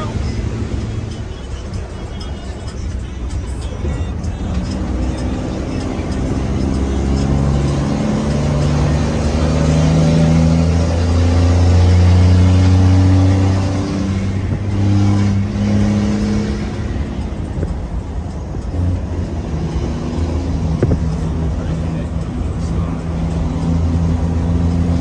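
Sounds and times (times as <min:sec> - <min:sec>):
truck engine drone: 0:00.0 - 0:25.0.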